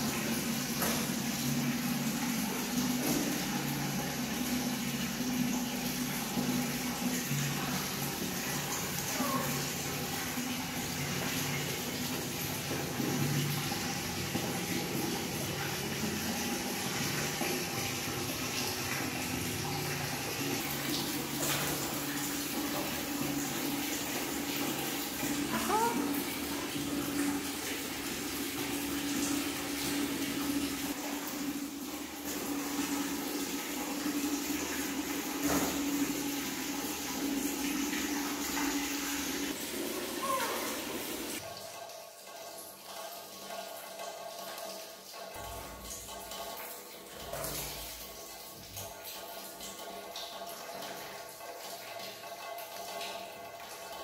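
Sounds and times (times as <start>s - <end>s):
water running from a tap: 0.0s - 54.0s.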